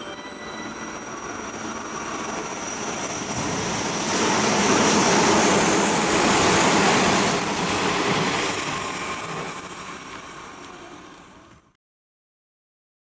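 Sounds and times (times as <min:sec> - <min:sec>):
train passing at speed: 0:00.0 - 0:11.8.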